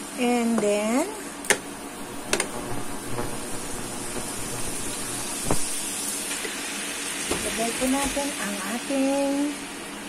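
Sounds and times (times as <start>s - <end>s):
meat and vegetables sizzling in pan: 0.0s - 10.0s.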